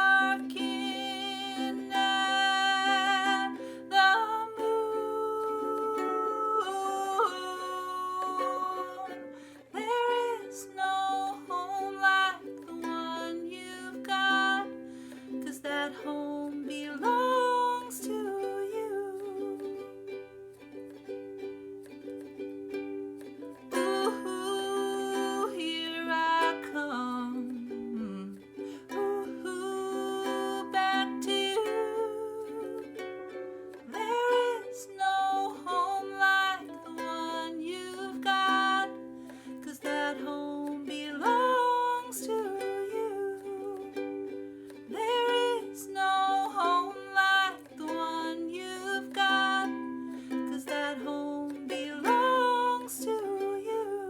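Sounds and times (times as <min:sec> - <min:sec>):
ukulele playing: 0:00.0 - 0:54.0.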